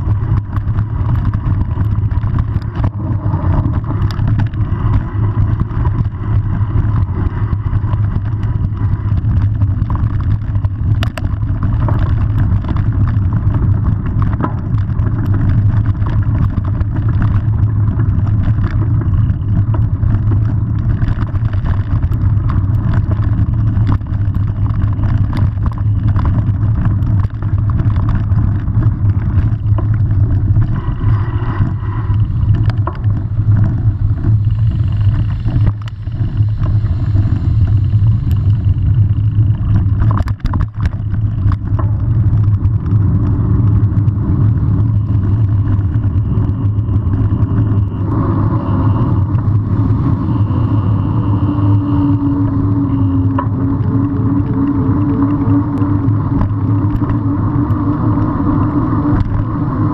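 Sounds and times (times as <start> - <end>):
bike rattles and clicks: 0.0 - 59.9
tyres rumbling on dirt: 0.0 - 59.9
wind buffeting microphone: 0.0 - 59.9.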